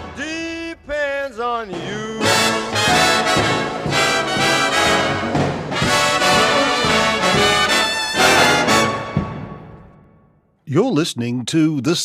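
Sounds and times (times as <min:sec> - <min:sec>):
brass section playing held chords: 0:00.0 - 0:09.8.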